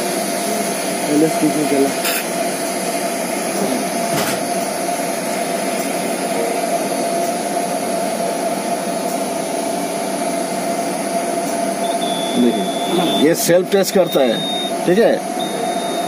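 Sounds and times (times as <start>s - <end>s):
machinery hum with whine: 0.0s - 16.0s.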